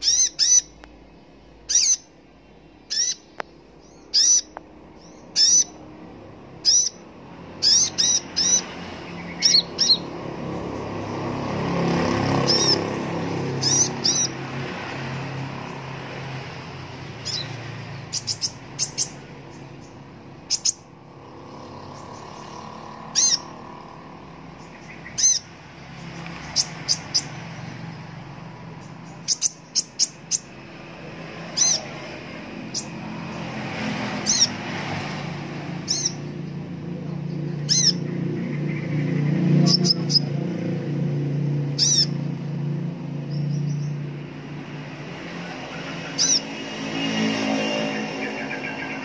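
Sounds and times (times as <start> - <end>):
bird giving sharp high chirps: 0.0 - 2.2, 2.8 - 36.6, 37.2 - 40.4, 41.4 - 42.4, 45.4 - 49.0.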